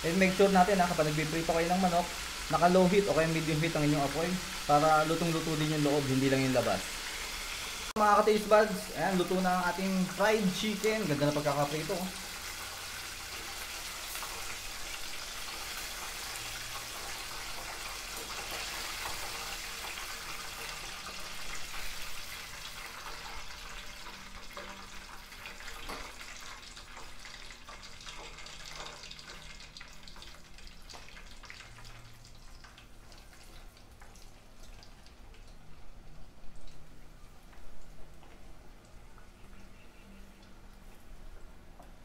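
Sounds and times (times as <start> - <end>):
hot oil sizzling and crackling: 0.0 - 42.0.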